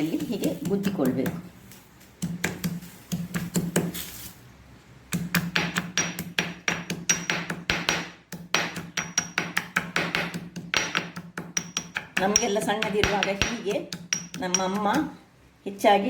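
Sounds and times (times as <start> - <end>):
pestle pounding in a mortar: 0.0 - 1.5, 2.2 - 4.0, 5.1 - 15.1.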